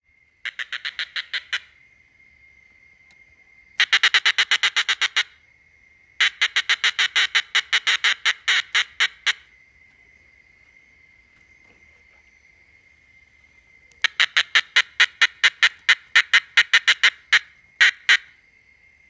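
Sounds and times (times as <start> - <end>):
faint high whine: 0.0 - 19.0
cicada rattling clicks: 0.1 - 19.0.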